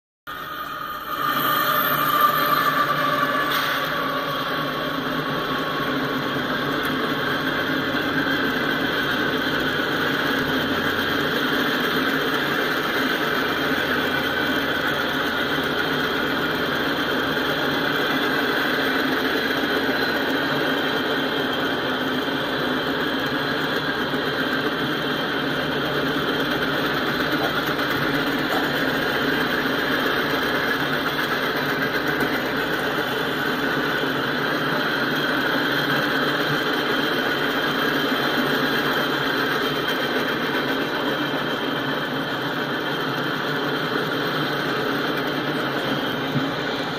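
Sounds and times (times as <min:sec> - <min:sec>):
train wheels on rails: 0:00.3 - 0:46.9.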